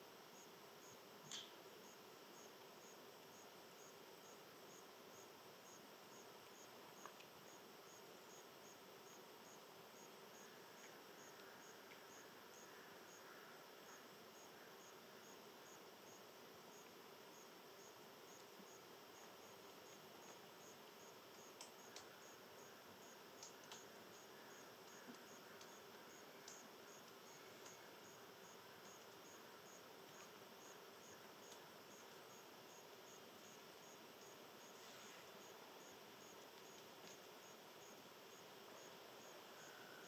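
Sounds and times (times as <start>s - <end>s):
insect chirping: 0.0s - 40.0s
soft background hiss: 0.0s - 40.0s.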